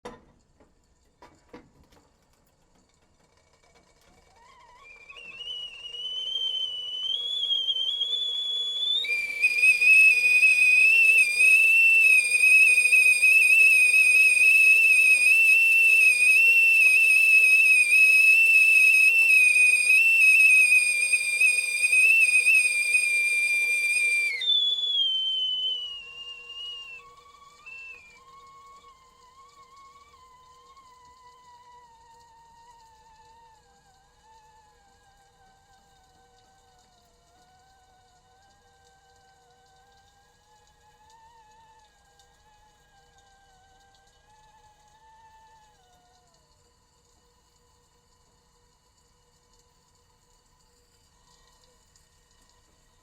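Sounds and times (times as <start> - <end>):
kettle whistling: 3.2 - 45.9.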